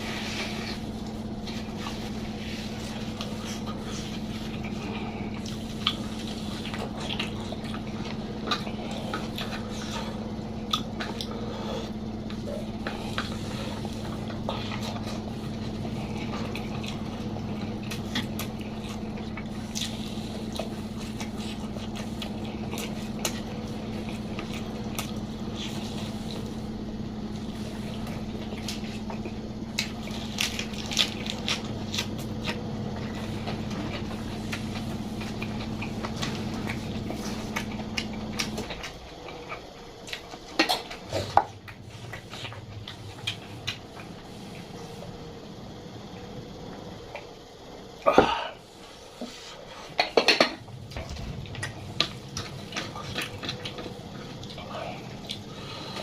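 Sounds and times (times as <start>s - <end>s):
person chewing food: 0.0s - 44.8s, 48.3s - 56.0s
steady low hum: 0.0s - 56.0s.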